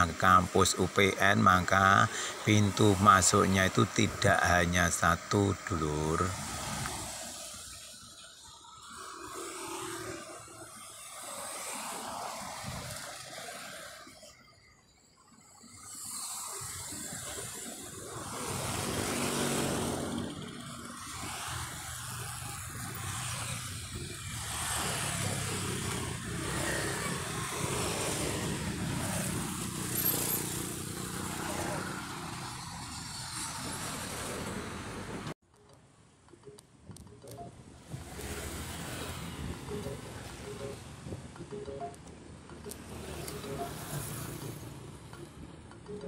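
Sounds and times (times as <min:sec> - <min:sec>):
vehicles passing by: 0:00.0 - 0:46.0.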